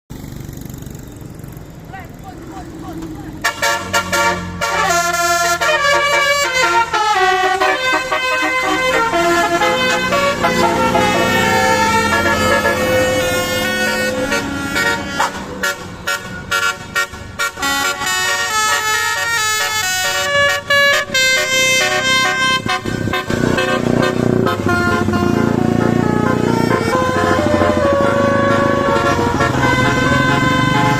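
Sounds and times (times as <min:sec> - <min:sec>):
musical bus horns playing melodies: 0:03.3 - 0:30.9.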